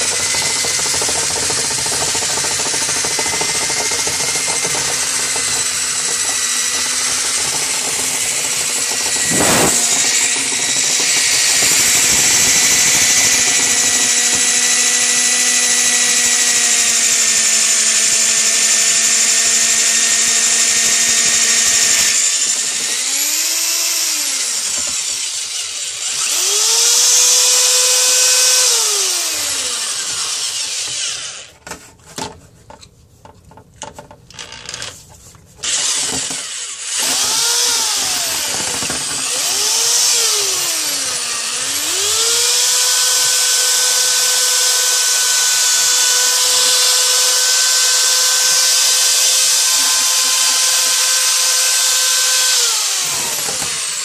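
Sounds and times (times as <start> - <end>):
power drill motor whine: 0.0 - 31.6, 35.6 - 54.0.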